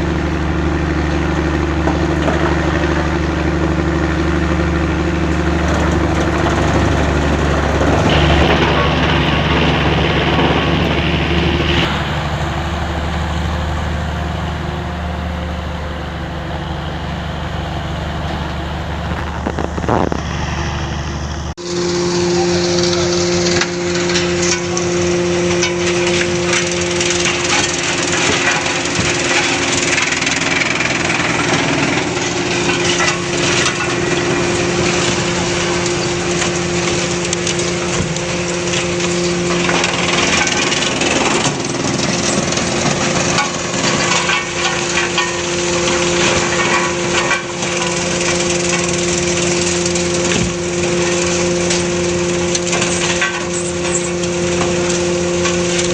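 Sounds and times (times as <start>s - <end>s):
wood crackling and splintering: 0.0s - 14.2s, 19.0s - 20.4s, 21.3s - 55.9s
machine motor humming: 0.0s - 14.8s, 18.2s - 55.9s.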